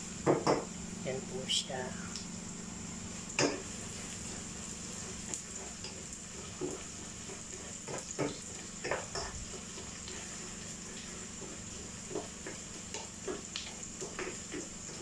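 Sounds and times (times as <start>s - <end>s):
steady low hum: 0.0s - 12.1s
onions sizzling in oil: 0.0s - 15.0s.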